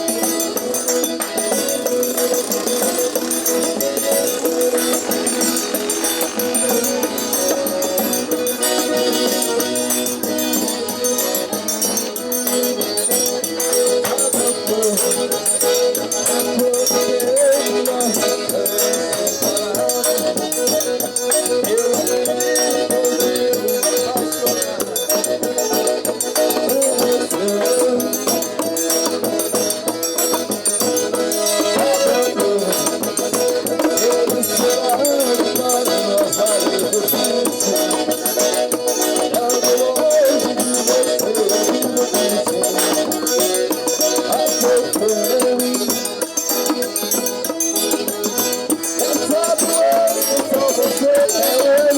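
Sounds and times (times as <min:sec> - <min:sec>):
accordion music: 0:00.0 - 0:51.9.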